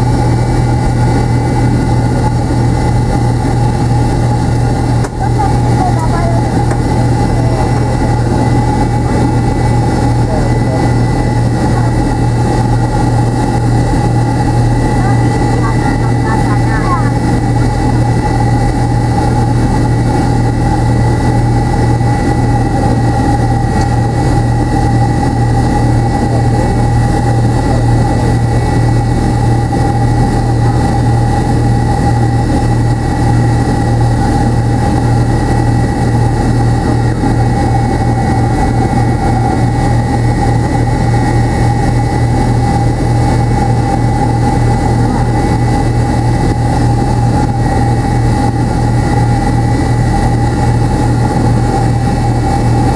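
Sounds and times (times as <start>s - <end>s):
jet engines droning in cabin: 0.0s - 52.9s.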